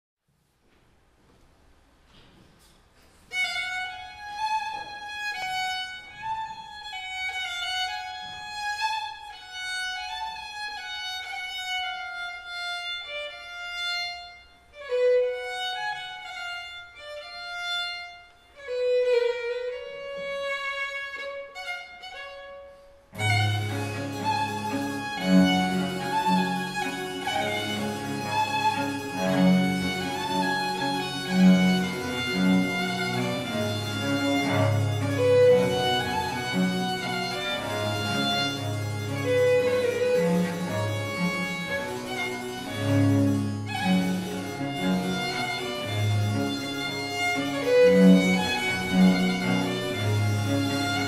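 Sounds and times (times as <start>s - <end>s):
solo violin dance tune: 3.3s - 51.0s.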